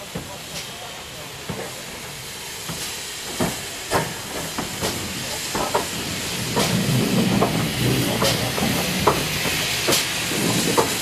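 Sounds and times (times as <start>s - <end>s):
deep locomotive rumble: 0.0s - 11.0s
steam hiss: 0.0s - 11.0s
steam locomotive exhaust chuffs: 0.0s - 11.0s.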